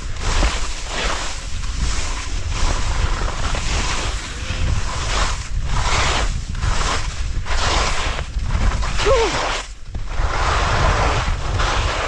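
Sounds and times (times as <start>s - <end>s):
skis scraping through slushy snow: 0.0s - 12.0s
wind rumble on microphone: 0.0s - 12.0s.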